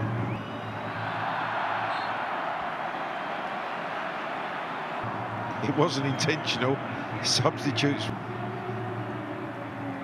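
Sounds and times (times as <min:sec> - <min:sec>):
stadium crowd hum: 0:00.0 - 0:10.0.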